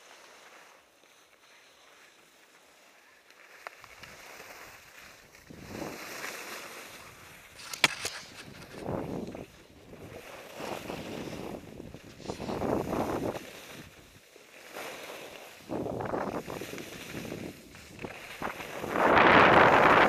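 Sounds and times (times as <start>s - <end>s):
snowboard scraping over snow: 0.0s - 20.0s.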